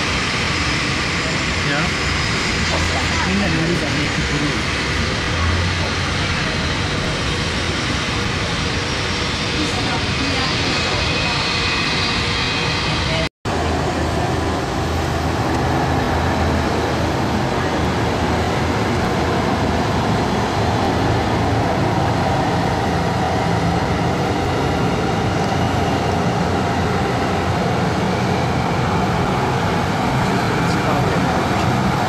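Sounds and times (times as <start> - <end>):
jet engines taxiing: 0.0 - 32.0.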